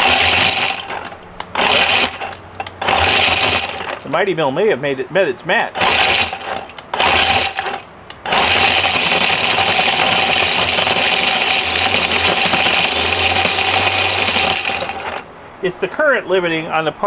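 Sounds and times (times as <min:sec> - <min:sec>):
ore crusher grinding plastic chunks: 0:00.0 - 0:04.3, 0:05.6 - 0:15.3.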